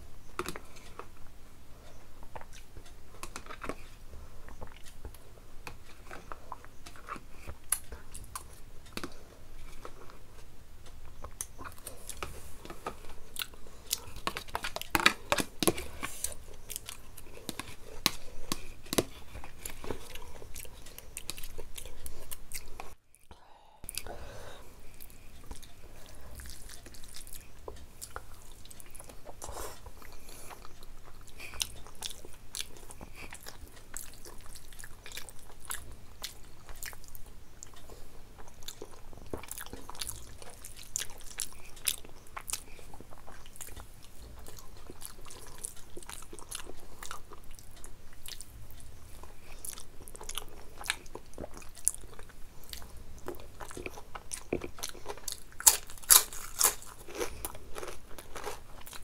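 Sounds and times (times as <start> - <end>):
chewing and biting food: 1.8 - 23.3, 24.9 - 59.0
food crunching: 2.2 - 23.3, 24.9 - 59.0.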